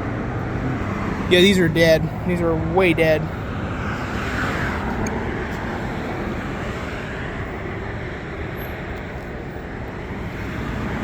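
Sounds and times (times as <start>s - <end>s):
cars passing on busy street: 0.0s - 11.0s.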